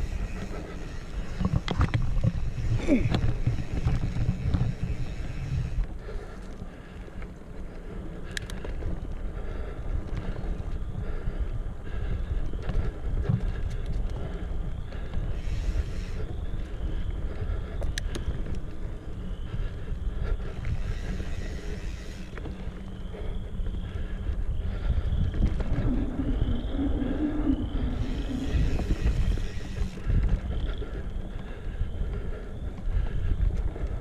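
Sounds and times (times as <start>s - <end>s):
bike clicks: 0.0s - 34.0s
tyre and trail rumble: 0.0s - 34.0s
wind buffeting microphone: 0.0s - 34.0s.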